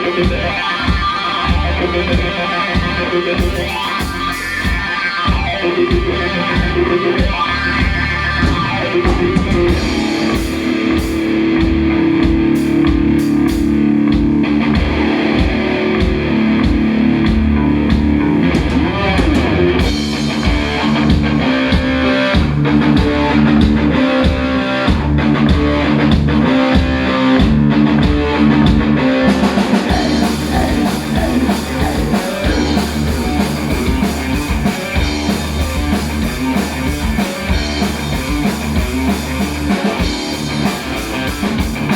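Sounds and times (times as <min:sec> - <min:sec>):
heavy metal band playing: 0:00.0 - 0:41.9.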